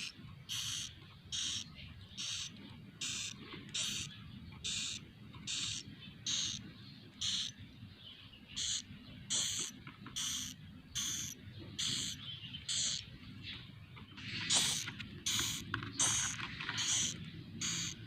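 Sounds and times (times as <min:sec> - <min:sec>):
nestlings hissing rasps: 0:00.0 - 0:06.6, 0:07.2 - 0:07.6, 0:08.6 - 0:13.1, 0:14.2 - 0:18.0.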